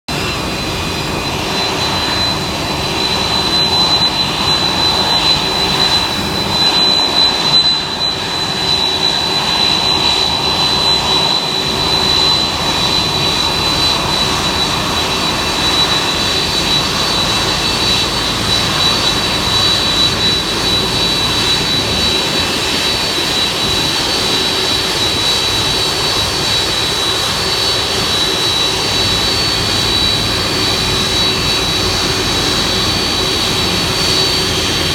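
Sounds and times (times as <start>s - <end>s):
jet engines rumbling with high whine: 0.0s - 34.9s.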